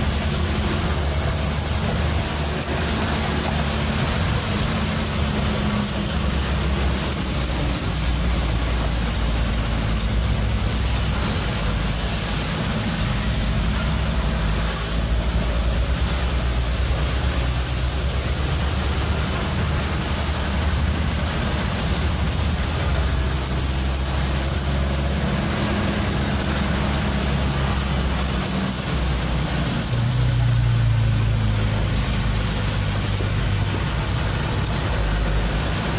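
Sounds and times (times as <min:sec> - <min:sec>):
road noise: 0:00.0 - 0:35.9
truck engine running: 0:00.0 - 0:35.9.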